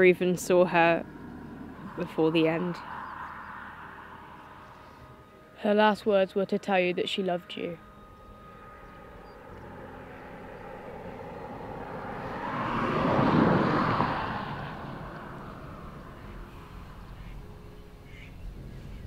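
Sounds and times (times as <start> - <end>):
vehicle passing by: 0.0 - 5.9, 7.8 - 19.0.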